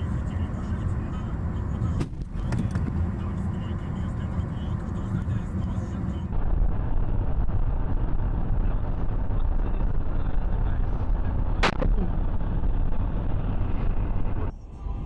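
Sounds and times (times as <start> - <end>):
vehicle and road rumble: 0.0 - 15.0.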